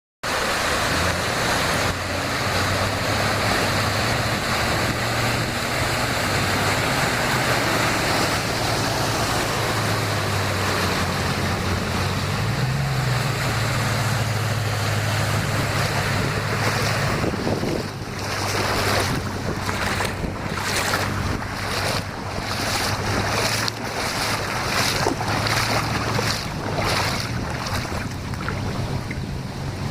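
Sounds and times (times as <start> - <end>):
tyres spraying floodwater: 0.2 - 29.9
low engine hum: 0.3 - 29.9.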